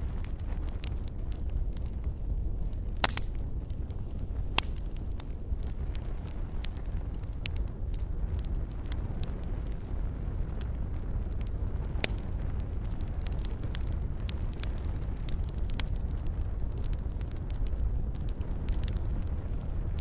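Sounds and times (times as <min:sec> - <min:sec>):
fire pops and snaps: 0:00.0 - 0:20.0
steady low rumble: 0:00.0 - 0:20.0
wood fire crackling: 0:00.0 - 0:20.0.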